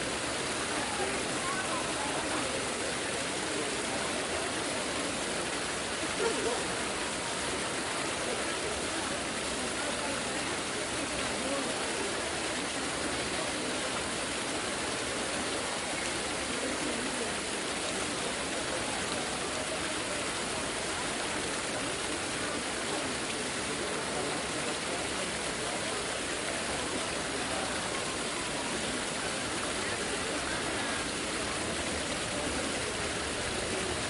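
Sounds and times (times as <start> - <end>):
murmur of distant crowd: 0.0 - 34.0.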